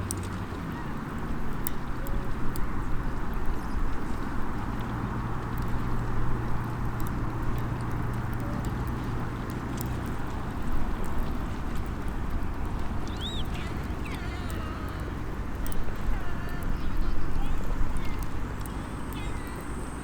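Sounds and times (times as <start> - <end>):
campfire crackling and popping: 0.0 - 20.0
seaside ambient noise: 0.0 - 20.0.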